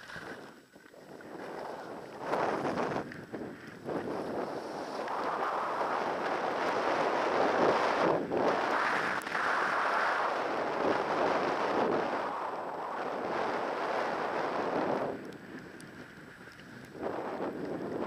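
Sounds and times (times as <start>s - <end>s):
skis scraping on snow: 0.0s - 18.0s
wind on microphone: 0.0s - 18.0s.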